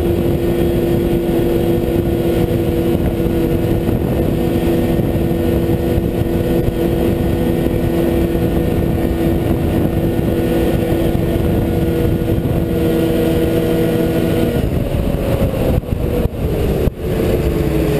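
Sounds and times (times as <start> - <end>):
snowmobile engine running hard: 0.0 - 17.9.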